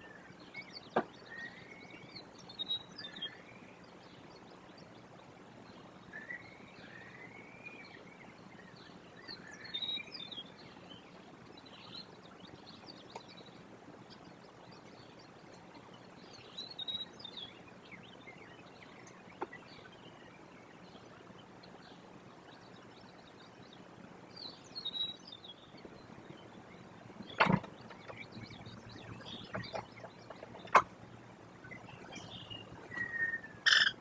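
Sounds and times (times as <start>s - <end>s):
birds chirping: 0.0s - 34.0s
faint low hum: 0.0s - 34.0s.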